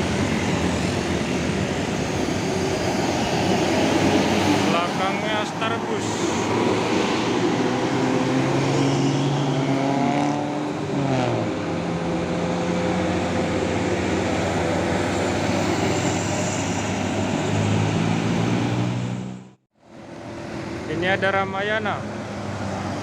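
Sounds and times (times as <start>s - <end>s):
bus diesel engine pulling uphill: 0.0s - 9.7s, 11.5s - 23.0s.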